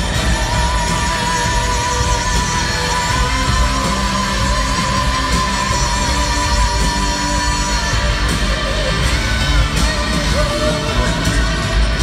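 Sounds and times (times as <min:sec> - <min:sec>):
live pop-country band music: 0:00.0 - 0:12.0.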